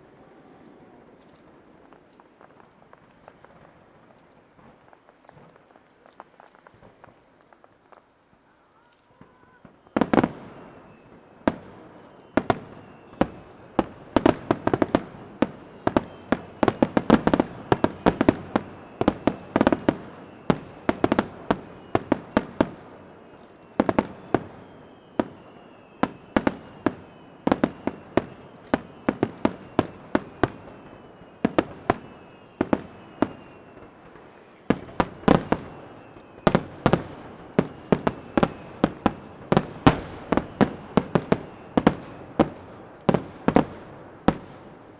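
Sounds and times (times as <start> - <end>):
fireworks bangs and crackles: 0.0 - 44.9
fireworks whistling: 0.0 - 44.9.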